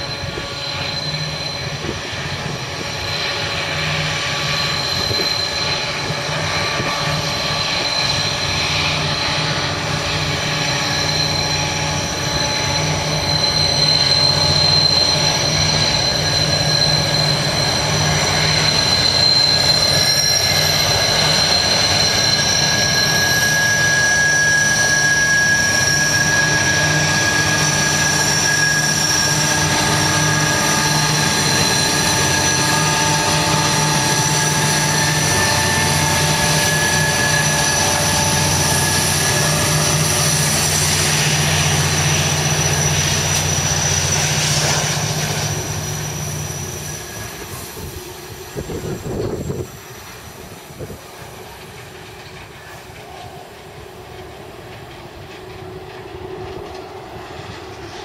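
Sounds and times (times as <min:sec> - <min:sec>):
diesel locomotive engines droning: 0:00.0 - 0:58.0
high-pitched whines: 0:00.0 - 0:58.0.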